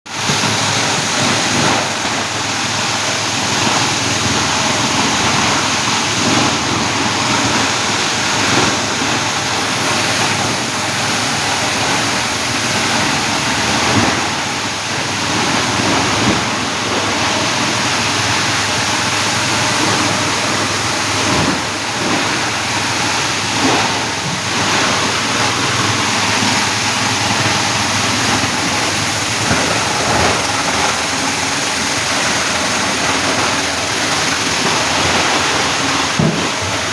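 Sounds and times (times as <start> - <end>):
scrap grinder running: 0.1 - 36.9.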